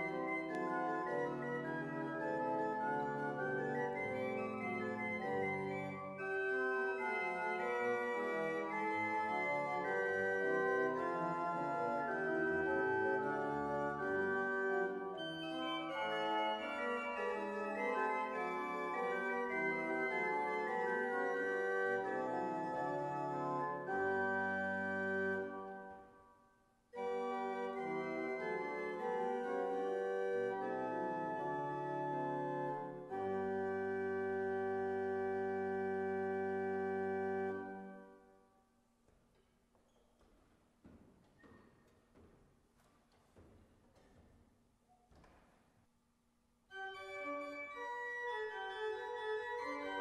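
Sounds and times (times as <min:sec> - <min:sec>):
pipe organ playing: 0:00.0 - 0:26.2, 0:26.9 - 0:38.4, 0:46.7 - 0:50.0.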